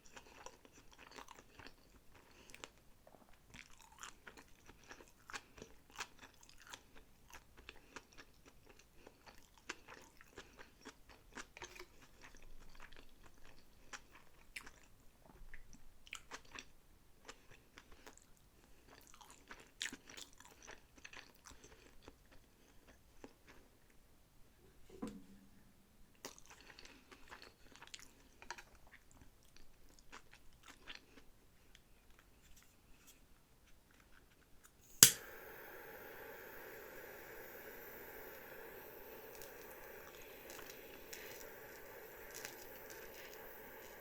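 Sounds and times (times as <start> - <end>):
person chewing food: 0.0 - 23.8, 26.2 - 34.8, 35.4 - 44.0.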